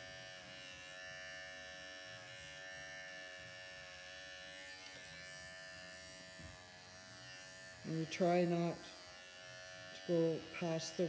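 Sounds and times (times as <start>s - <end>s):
electric pet clippers running: 0.0s - 11.0s.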